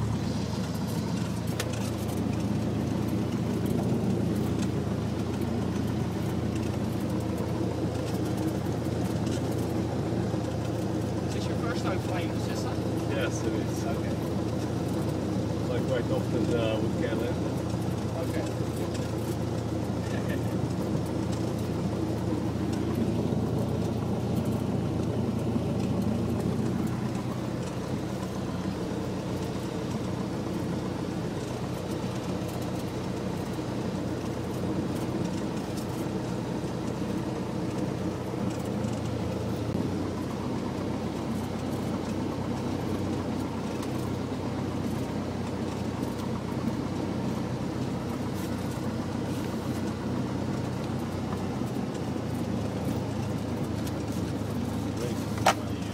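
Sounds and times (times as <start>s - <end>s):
airplane propeller engine running: 0.0s - 55.9s.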